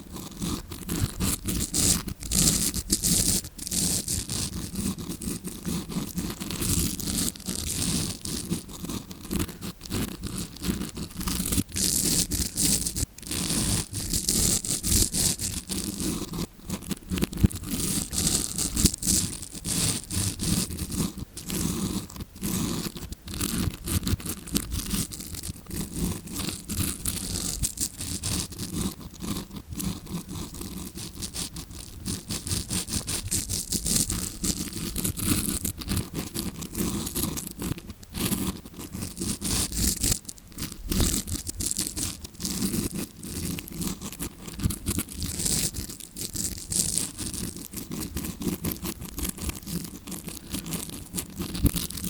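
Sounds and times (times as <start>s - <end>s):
scrubbing brush scratching microphone: 0.0s - 52.0s.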